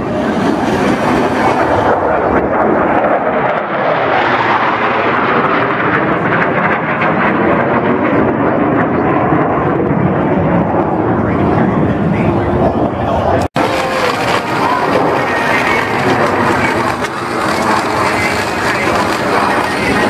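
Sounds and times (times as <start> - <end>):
jet flying past roaring: 0.0 - 20.0.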